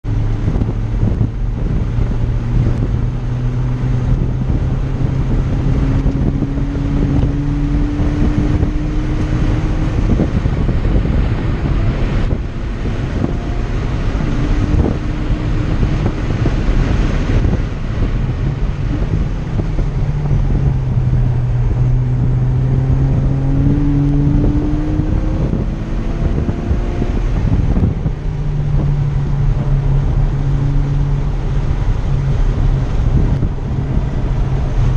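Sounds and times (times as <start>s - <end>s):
wind and road noise: 0.0s - 34.9s
car engine revving hard: 0.1s - 34.9s.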